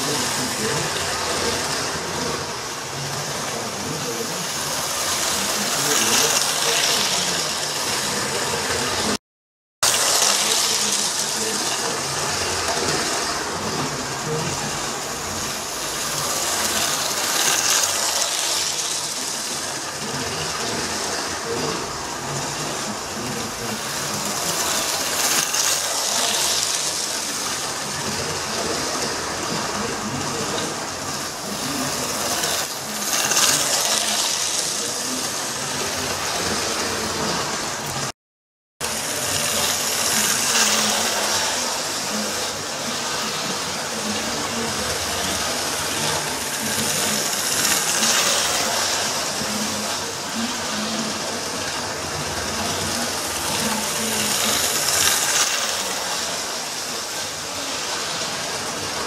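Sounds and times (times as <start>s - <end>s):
model train running on track: 0.0s - 9.2s, 9.8s - 38.1s, 38.8s - 59.0s.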